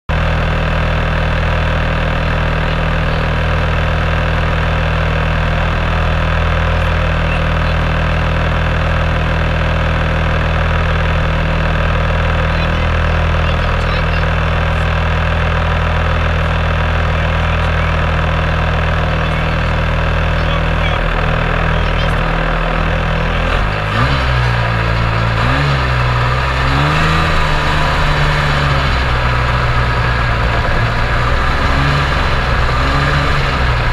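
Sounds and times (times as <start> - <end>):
snowmobile engine idling and revving: 0.0 - 33.9.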